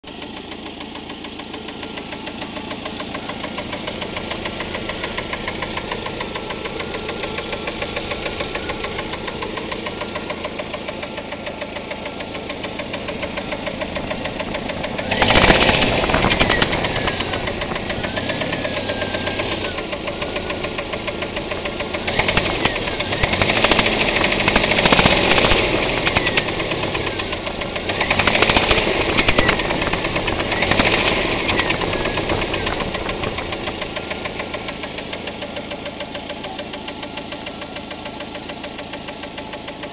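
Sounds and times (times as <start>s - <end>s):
car engine idling with knock: 0.0s - 39.9s
engine revving: 2.4s - 37.1s.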